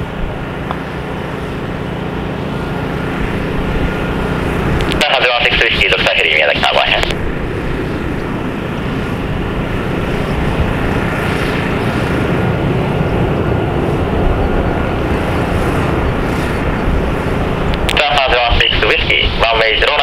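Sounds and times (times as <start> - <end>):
jet engines rushing drone: 0.0 - 20.0.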